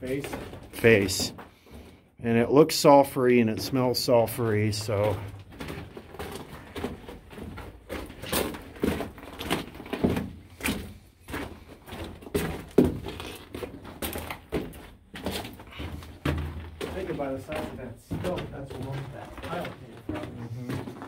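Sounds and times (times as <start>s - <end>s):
footsteps crunching on rubble: 0.0s - 2.1s, 3.2s - 21.0s.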